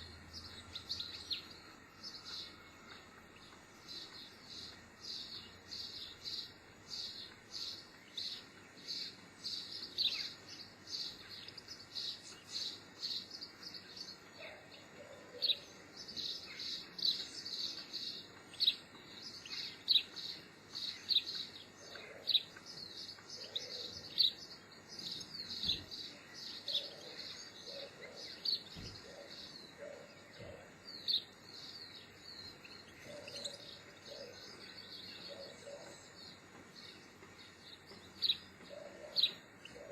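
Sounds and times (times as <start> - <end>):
fainter lower bird calls: 0.0 - 39.9
small birds chirping: 0.0 - 39.9.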